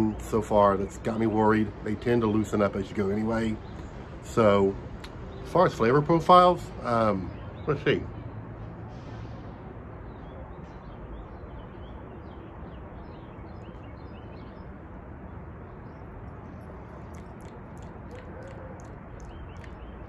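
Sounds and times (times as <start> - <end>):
small birds chirping: 0.0 - 8.4, 10.0 - 20.0
outdoor background noise: 0.0 - 20.0.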